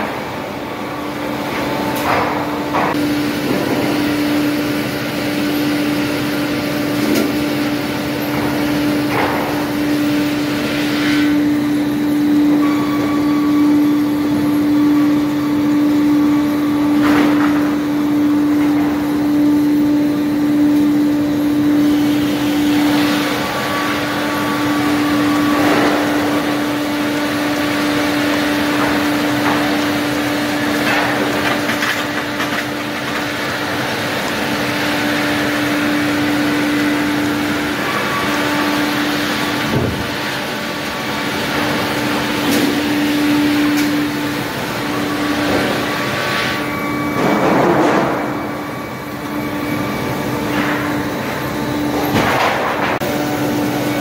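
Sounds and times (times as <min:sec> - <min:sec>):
loud steady machine hum: 0:00.0 - 0:54.0.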